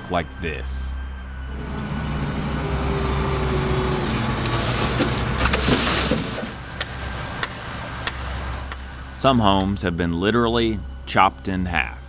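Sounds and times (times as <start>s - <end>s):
road noise: 1.0s - 11.1s
vehicle engine humming: 1.0s - 11.1s.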